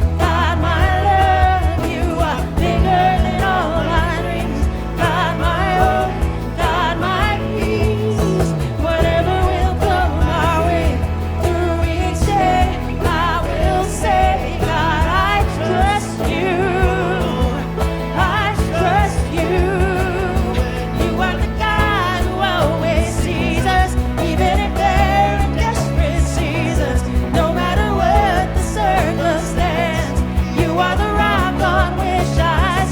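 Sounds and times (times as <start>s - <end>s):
band accompaniment: 0.0s - 32.9s
person singing with vibrato: 0.0s - 32.9s.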